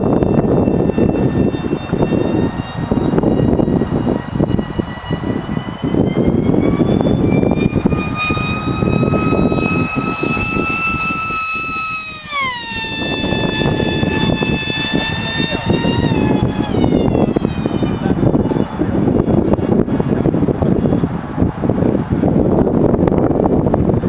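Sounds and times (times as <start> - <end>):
rc boat motor whine: 0.0 - 24.0.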